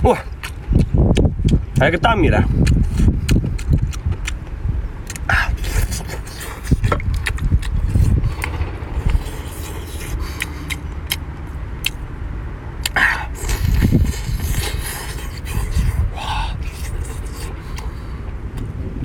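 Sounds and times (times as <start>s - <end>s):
steady low rumble: 0.0s - 19.0s
clicks and scrapes of eating seafood: 0.1s - 1.9s, 2.6s - 12.1s, 12.8s - 18.7s.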